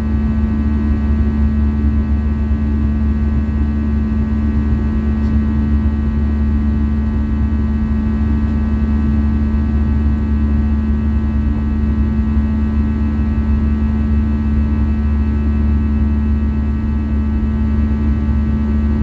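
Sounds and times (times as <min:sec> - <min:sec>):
jet engines droning in cabin: 0:00.0 - 0:19.0.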